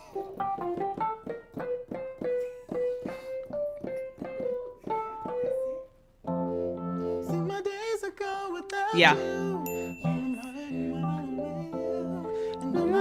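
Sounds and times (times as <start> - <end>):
electronic keyboard melody: 0.0 - 13.0.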